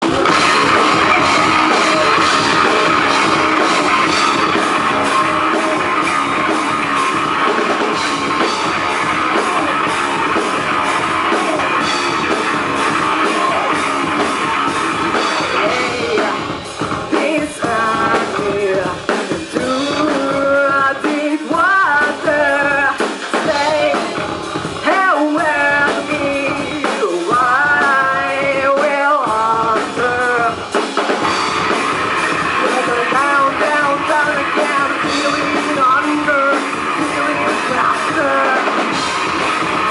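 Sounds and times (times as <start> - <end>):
person singing: 0.0 - 30.8, 32.3 - 39.9
rock band playing live: 0.0 - 39.9.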